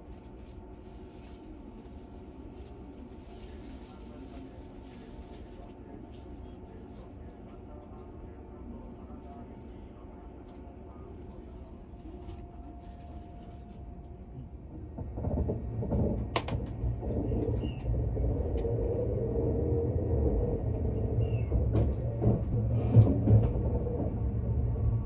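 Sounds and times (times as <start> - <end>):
steady train hum: 0.0 - 25.0
train rumble: 0.0 - 25.0.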